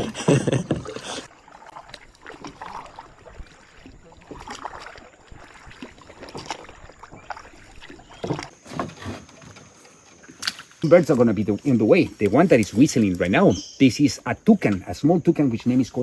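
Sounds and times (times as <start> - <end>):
paddle strokes splashing in water: 0.0 - 13.3.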